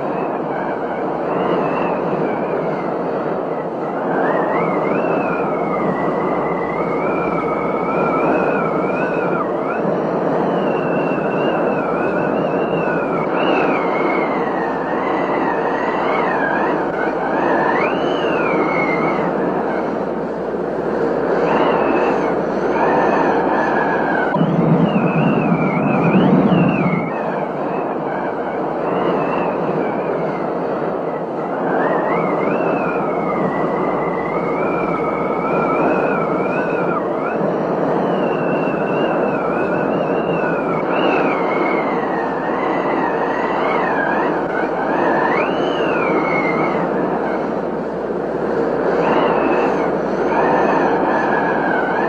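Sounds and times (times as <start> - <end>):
high wandering whistling tone: 0.0 - 52.0
steady rushing noise: 0.0 - 52.0.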